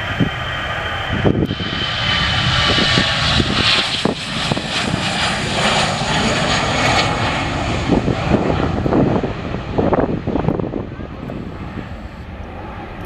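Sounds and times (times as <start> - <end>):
jet airliner engines rumbling: 0.0 - 13.0.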